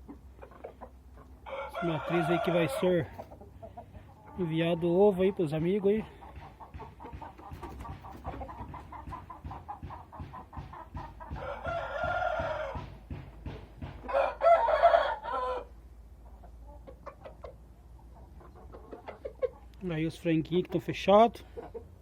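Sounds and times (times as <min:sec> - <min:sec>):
chicken calls: 0:00.0 - 0:13.0, 0:14.0 - 0:22.0
chickens clucking: 0:00.0 - 0:22.0.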